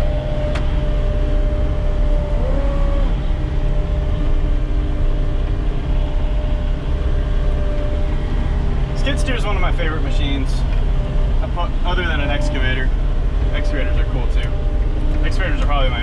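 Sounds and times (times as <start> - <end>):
constant engine whine: 0.0 - 16.0
diesel engine at high revs: 0.0 - 16.0.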